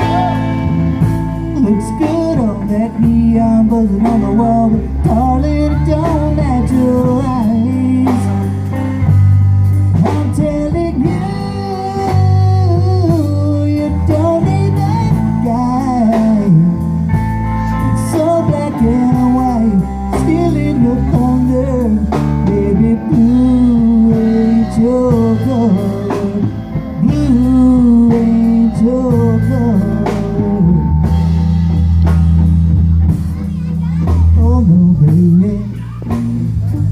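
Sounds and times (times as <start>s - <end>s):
bass: 0.0s - 36.9s
drums: 0.0s - 36.9s
lead guitar with bending notes: 0.0s - 36.9s.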